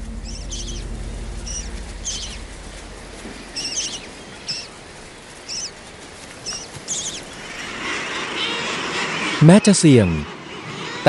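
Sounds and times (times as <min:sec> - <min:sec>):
gull chicks peeping: 0:00.0 - 0:11.0.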